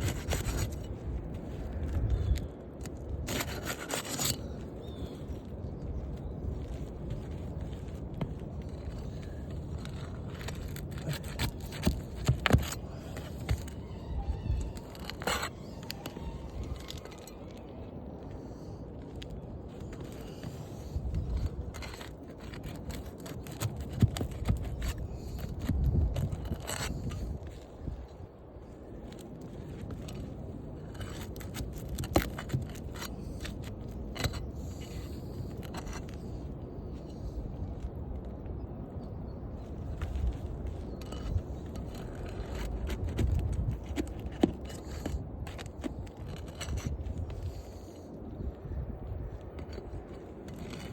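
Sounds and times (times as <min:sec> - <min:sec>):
shingles scraping and clicking: 0:00.0 - 0:37.9, 0:39.6 - 0:50.9.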